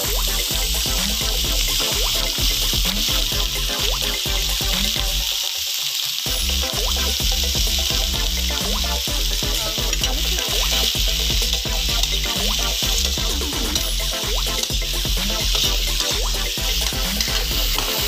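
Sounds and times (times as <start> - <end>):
background music: 0.0 - 18.0
vegetables sizzling in a wok: 0.0 - 18.0.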